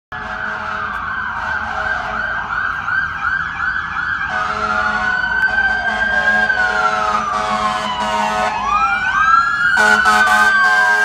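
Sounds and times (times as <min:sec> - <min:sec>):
siren wailing: 0:00.1 - 0:11.0
rapid siren yelp: 0:00.2 - 0:11.0
second siren rising wail: 0:00.2 - 0:11.0.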